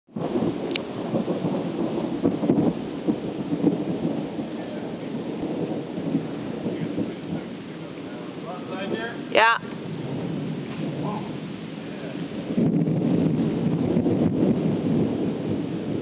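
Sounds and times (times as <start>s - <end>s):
rain falling: 0.1s - 16.0s
thunder rolling: 0.1s - 16.0s.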